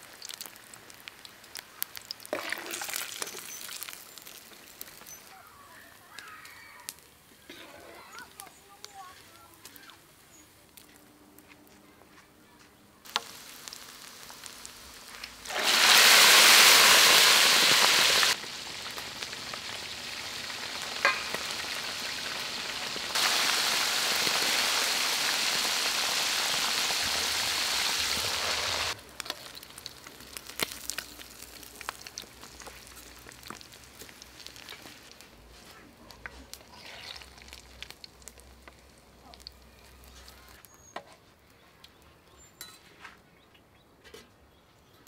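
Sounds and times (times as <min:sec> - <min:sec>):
frogs sizzling in hot oil: 0:00.0 - 0:08.5, 0:13.1 - 0:40.9.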